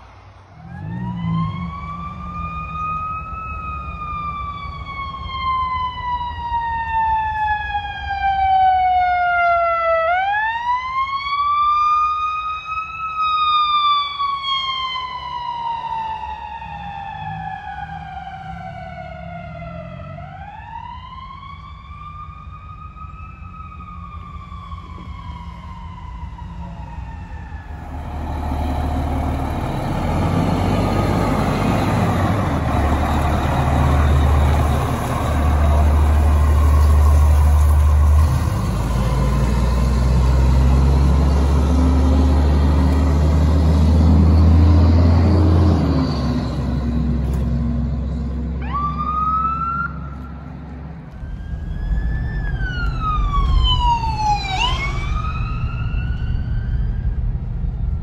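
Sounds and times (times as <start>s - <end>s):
truck engine and road noise: 0.0s - 58.0s
fire truck siren wailing: 0.6s - 58.0s.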